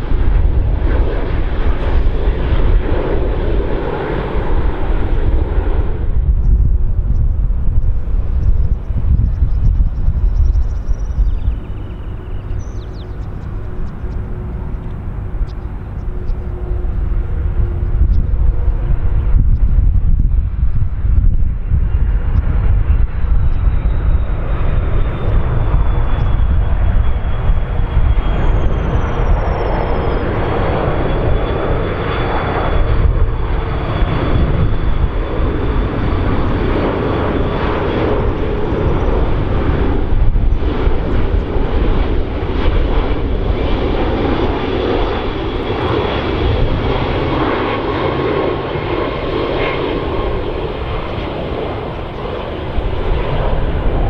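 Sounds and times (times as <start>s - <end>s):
jet airliner engine rumble and whine: 0.0s - 54.0s.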